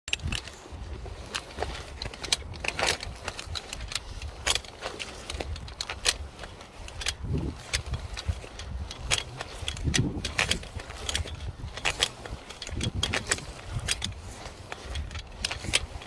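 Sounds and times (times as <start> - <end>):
climbing hardware clinking and jangling: 0.1 - 16.0
wind rumble on microphone: 0.1 - 16.0.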